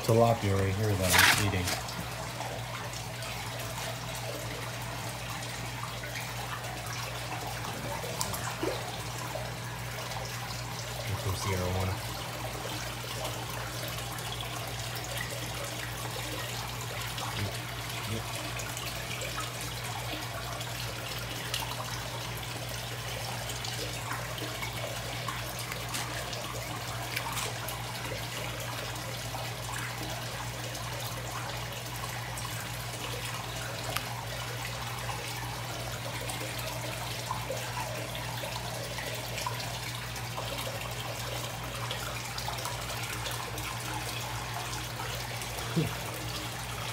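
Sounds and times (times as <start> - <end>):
small water splashes: 0.0 - 46.9
water trickling and lapping: 0.0 - 46.9.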